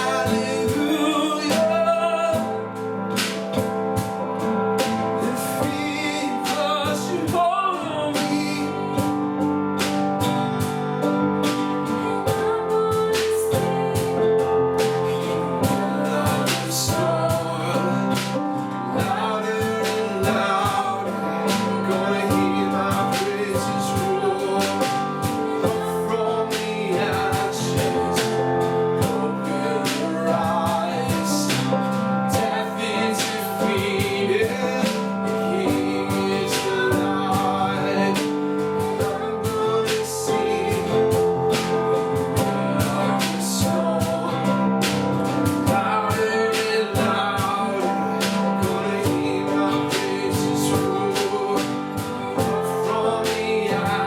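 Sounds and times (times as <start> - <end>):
gospel singing with instruments: 0.0 - 54.0.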